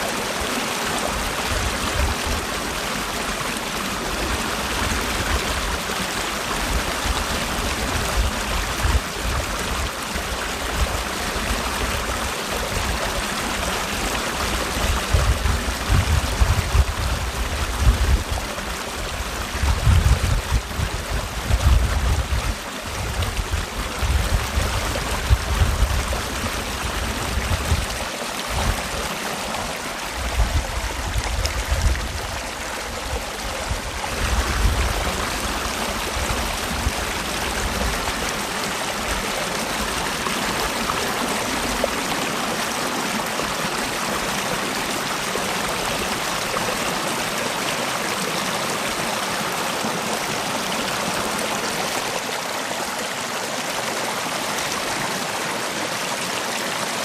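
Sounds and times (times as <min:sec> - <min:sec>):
stream flowing and splashing: 0:00.0 - 0:57.0.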